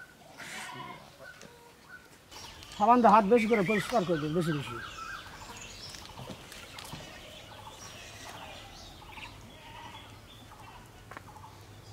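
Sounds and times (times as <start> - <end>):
birds chirping and calling: 0.0 - 11.9.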